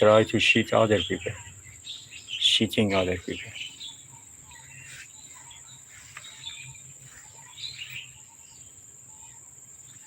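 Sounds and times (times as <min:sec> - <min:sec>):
bird chirps: 0:00.0 - 0:10.0
insects droning: 0:00.0 - 0:10.0.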